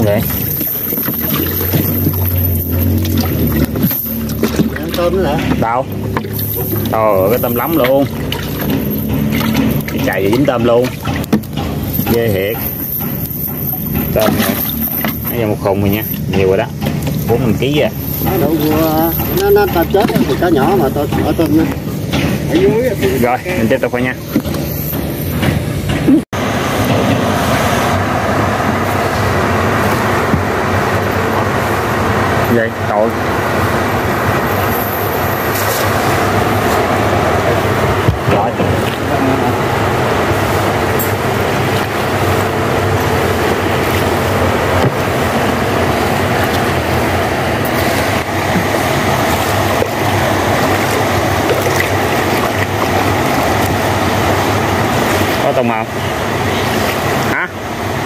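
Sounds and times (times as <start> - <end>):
small boat engine droning: 0.0 - 58.0
water noise: 0.0 - 58.0
wind: 0.0 - 58.0.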